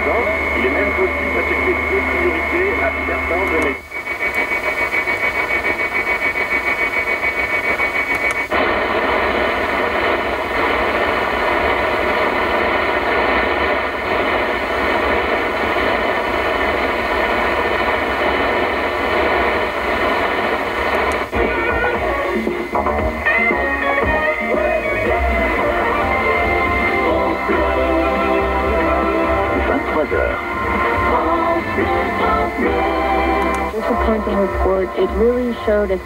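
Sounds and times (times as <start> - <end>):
high radio whistle: 0.0 - 36.0
pulsing radio buzz: 0.0 - 36.0
radio static: 0.0 - 36.0.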